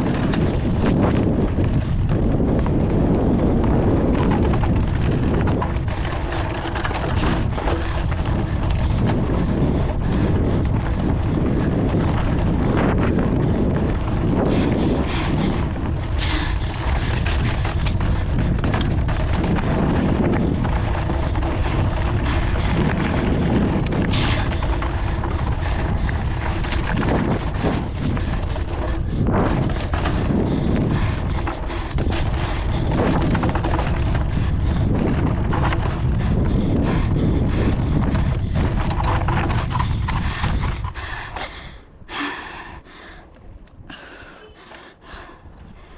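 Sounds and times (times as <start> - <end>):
bike clattering over trail: 0.0 - 41.5
wind rumbling on microphone: 0.0 - 45.9.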